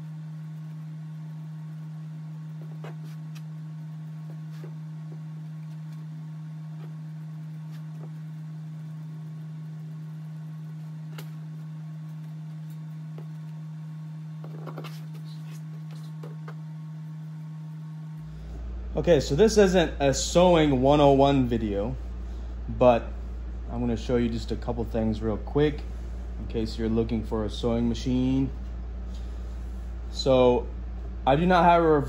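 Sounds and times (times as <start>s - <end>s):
loud steady low hum: 0.0s - 32.0s.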